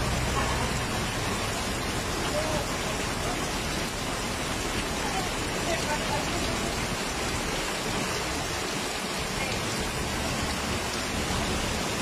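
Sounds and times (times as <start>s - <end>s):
floodwater running: 0.0s - 12.0s
heavy rain falling: 0.0s - 12.0s.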